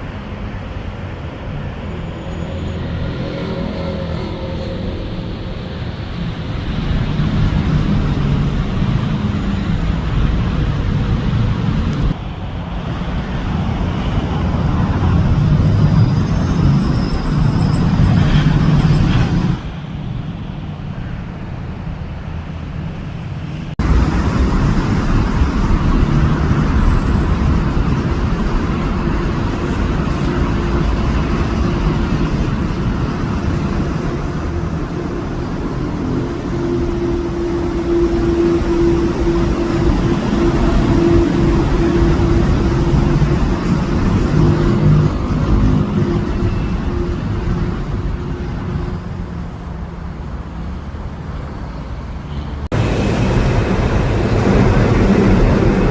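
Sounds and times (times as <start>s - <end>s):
road traffic noise: 0.0s - 55.9s.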